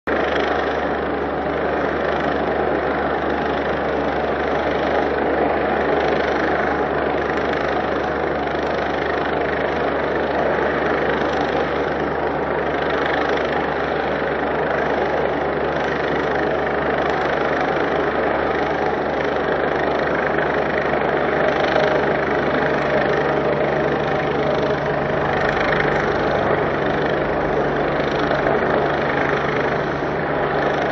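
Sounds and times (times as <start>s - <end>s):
helicopter running: 0.1s - 30.9s.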